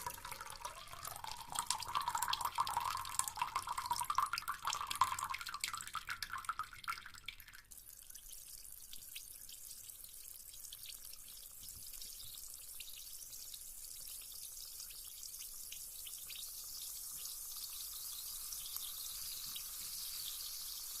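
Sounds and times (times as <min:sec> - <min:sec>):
bath bomb fizzing in water: 0:00.0 - 0:08.5, 0:11.6 - 0:21.0.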